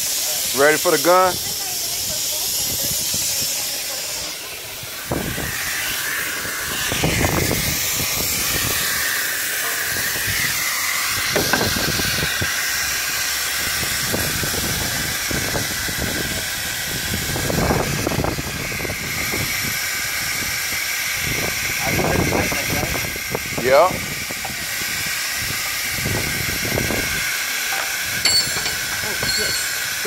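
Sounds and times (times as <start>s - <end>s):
pneumatic impact wrench hammering: 0.0s - 21.5s, 22.5s - 30.0s
compressed air hissing: 0.0s - 30.0s.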